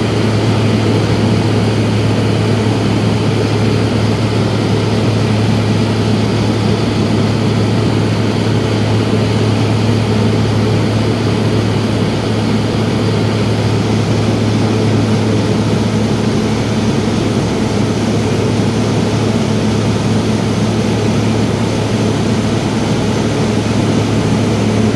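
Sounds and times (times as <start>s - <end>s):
propeller plane engine droning: 0.0s - 24.9s.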